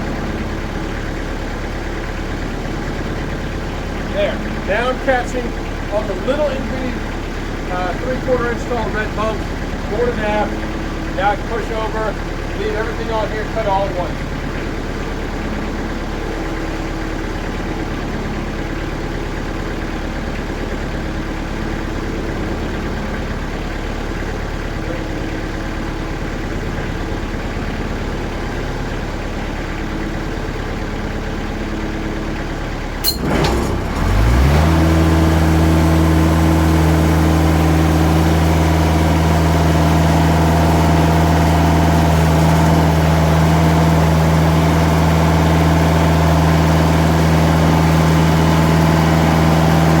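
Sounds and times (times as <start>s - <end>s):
diesel engine idling and revving: 0.0s - 50.0s.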